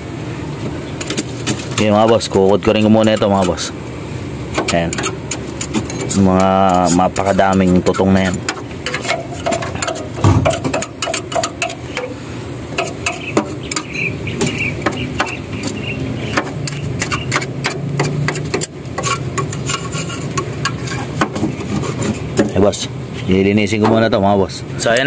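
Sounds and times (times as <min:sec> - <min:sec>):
steady low hum: 0:00.0 - 0:25.0
hand scraping debris on metal: 0:01.0 - 0:03.8, 0:04.5 - 0:22.8.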